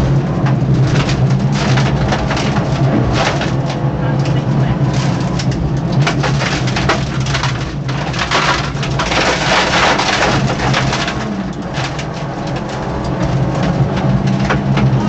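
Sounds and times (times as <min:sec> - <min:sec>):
car engine running at speed: 0:00.0 - 0:15.0
gravel striking car underbody: 0:00.0 - 0:15.0.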